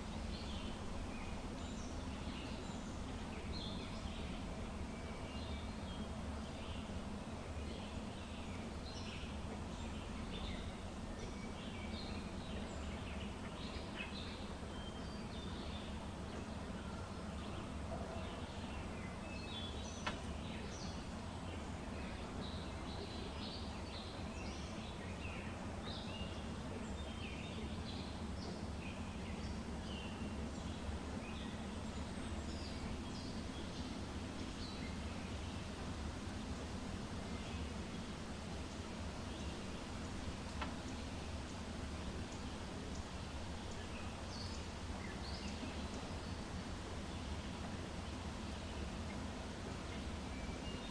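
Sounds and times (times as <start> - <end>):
low background rumble: 0.0 - 50.9
small birds chirping: 0.0 - 50.9.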